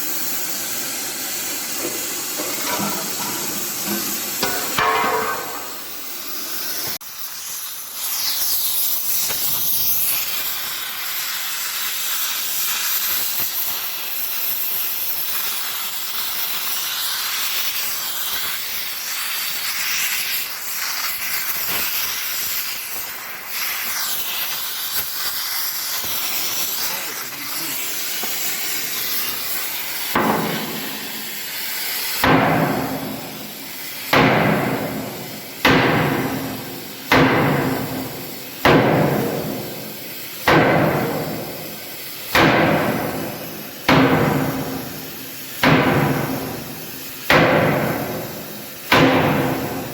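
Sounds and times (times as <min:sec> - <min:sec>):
hissing and crackling metal cutting: 0:00.0 - 0:49.9.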